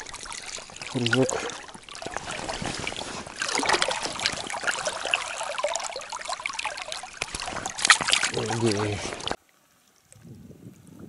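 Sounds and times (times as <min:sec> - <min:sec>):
river water splashing: 0:00.0 - 0:10.2.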